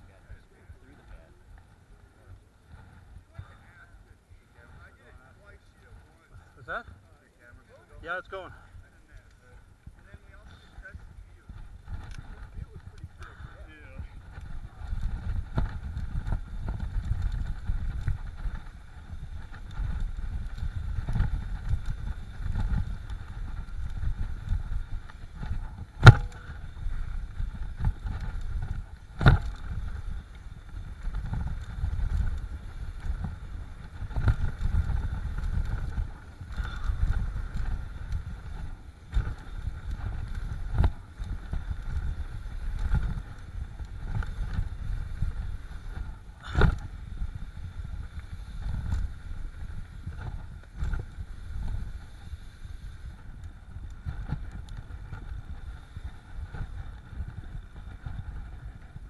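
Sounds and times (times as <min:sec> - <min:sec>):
bike tyres rumbling on dirt: 0:00.0 - 0:59.0
wind on microphone: 0:00.0 - 0:59.0.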